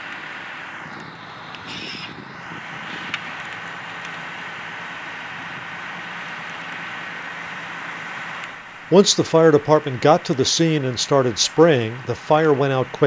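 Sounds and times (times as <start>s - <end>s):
thin steady whine: 0.0s - 13.0s
vehicle engine running: 0.0s - 13.0s.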